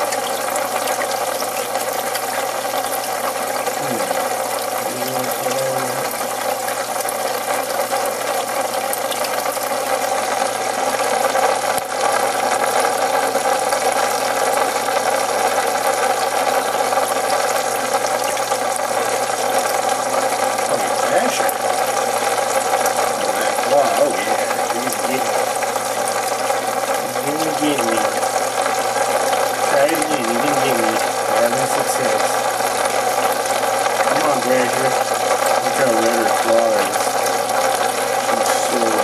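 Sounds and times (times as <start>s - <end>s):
aquarium pump humming: 0.0s - 39.0s.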